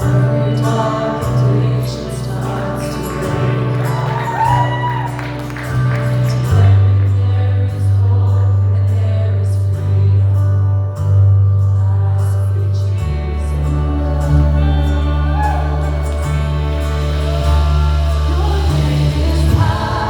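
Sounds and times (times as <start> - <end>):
low bass notes: 0.0 - 20.0
voices singing: 0.0 - 20.0
worship band music: 0.0 - 20.0.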